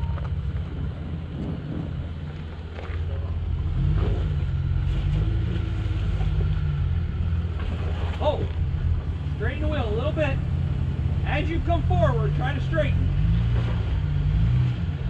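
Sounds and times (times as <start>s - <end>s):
car engine pulling at low revs: 0.0s - 15.0s.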